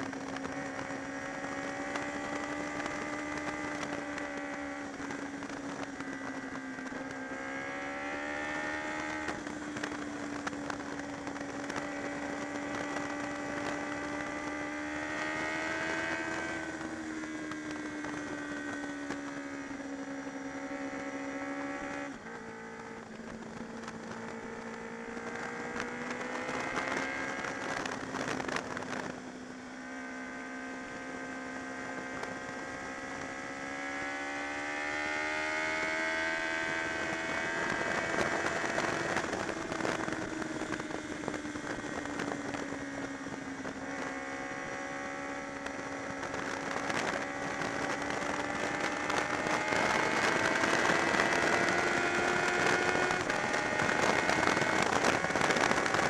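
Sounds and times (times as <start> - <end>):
wind buffeting microphone: 0.0 - 29.3, 31.5 - 56.0
motorcycle engine at speed: 0.0 - 56.0.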